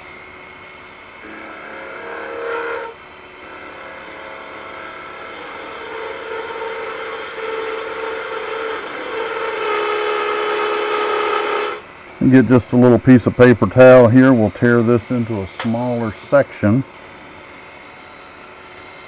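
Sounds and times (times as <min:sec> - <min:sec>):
steady hum: 0:00.0 - 0:19.0
wood lathe cutting: 0:00.0 - 0:19.0.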